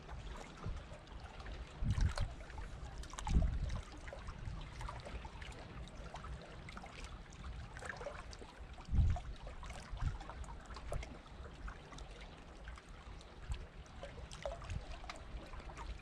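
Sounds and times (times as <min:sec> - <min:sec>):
water lapping and trickling: 0:00.0 - 0:16.0.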